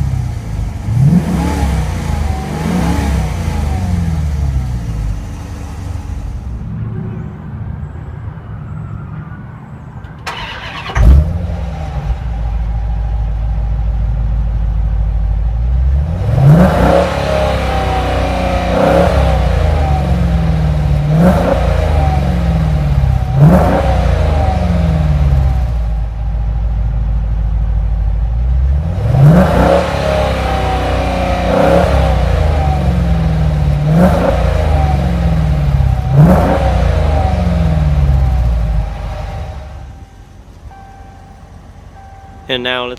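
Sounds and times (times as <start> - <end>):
car engine idling: 0.0 - 8.8, 9.9 - 16.6, 17.7 - 42.9
car engine starting: 0.0 - 42.9.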